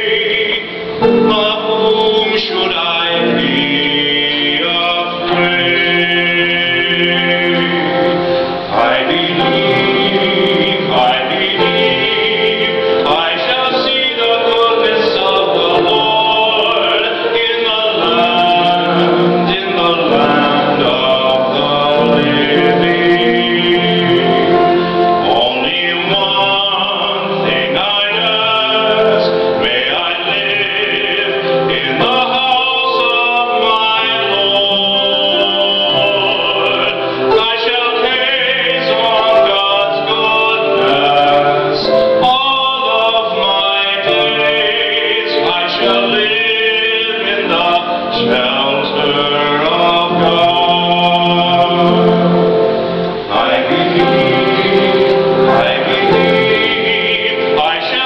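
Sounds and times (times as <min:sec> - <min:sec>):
man singing: 0:00.0 - 0:58.0.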